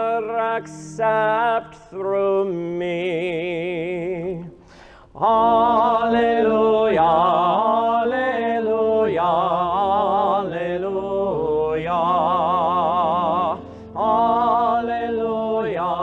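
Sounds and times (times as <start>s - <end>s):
man singing with vibrato: 0.0s - 16.0s.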